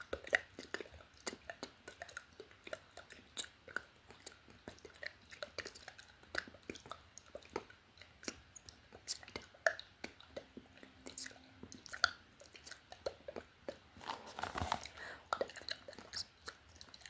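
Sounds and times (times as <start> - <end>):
wet mouth clicks and smacks: 0.0 - 13.8, 15.3 - 17.0.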